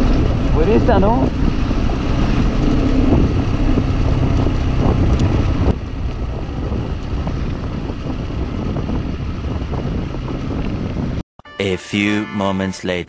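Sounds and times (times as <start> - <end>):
wind rushing over microphone: 0.0 - 11.2.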